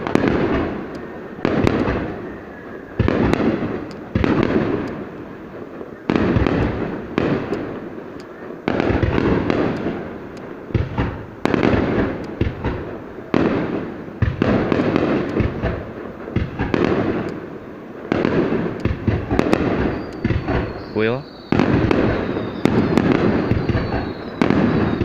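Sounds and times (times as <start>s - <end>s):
fireworks bangs: 0.0s - 25.0s
fireworks crackle: 0.0s - 25.0s.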